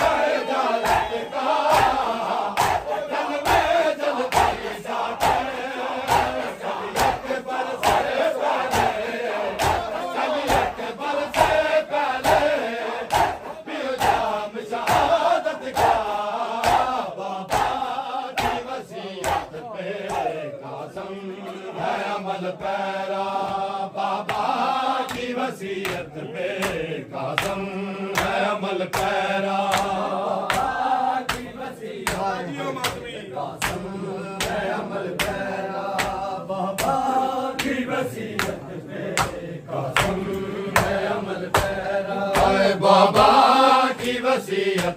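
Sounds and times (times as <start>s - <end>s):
men chanting in unison: 0.0s - 44.9s
rhythmic chest-beating hand slaps: 0.0s - 44.9s.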